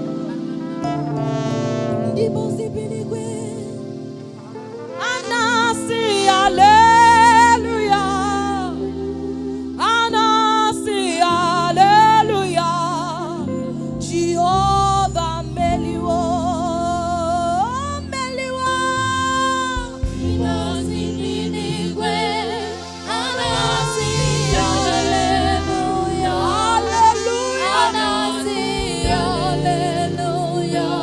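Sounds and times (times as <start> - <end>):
keyboard and bass accompaniment: 0.0 - 31.0
lead voice singing gospel: 5.0 - 31.0.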